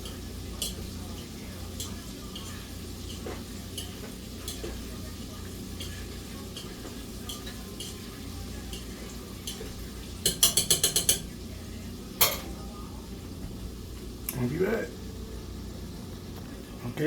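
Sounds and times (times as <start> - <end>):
food frying in hot grease: 0.0 - 17.0.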